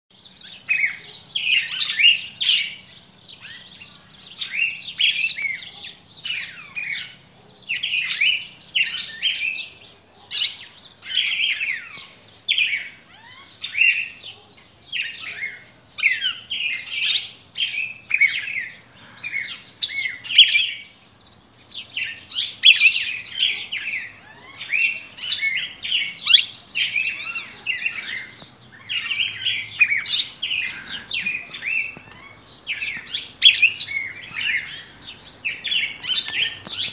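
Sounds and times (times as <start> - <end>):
cardinals singing: 0.1 - 36.9.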